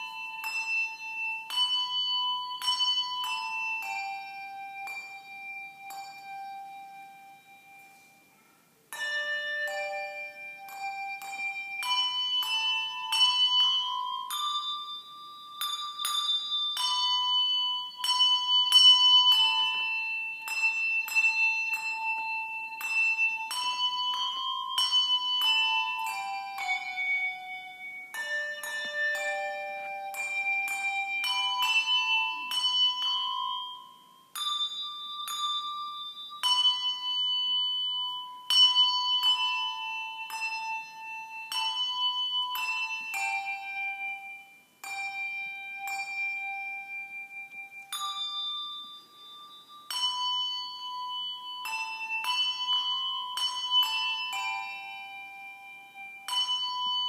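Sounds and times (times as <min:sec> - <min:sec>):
handbells playing slow tune: 0:00.0 - 0:57.0.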